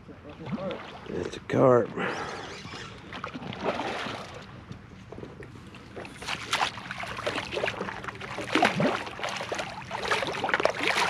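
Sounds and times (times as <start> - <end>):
water sloshing and splashing: 0.1 - 11.0.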